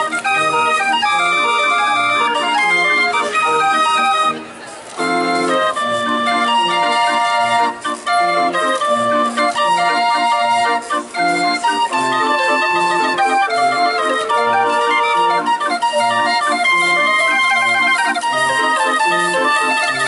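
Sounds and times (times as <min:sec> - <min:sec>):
barrel organ playing a tune: 0:00.0 - 0:20.0.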